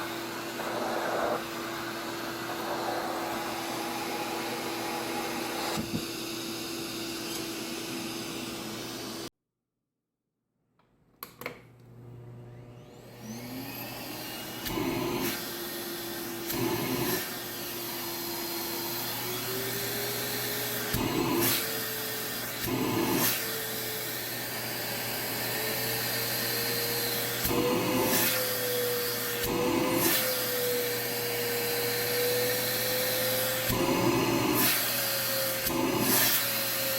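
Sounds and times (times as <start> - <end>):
vacuum motor whine and hum: 0.0 - 9.3, 11.8 - 36.9.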